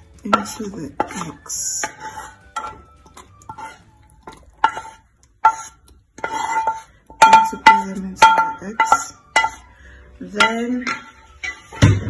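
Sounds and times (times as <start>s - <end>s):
spoon scraping and clinking on pan: 0.0s - 12.0s.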